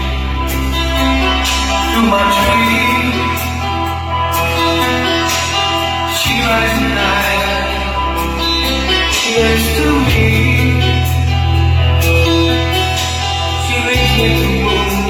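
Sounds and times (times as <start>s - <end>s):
heavy bass notes: 0.0s - 15.0s
song with guitar and singing: 0.0s - 15.0s.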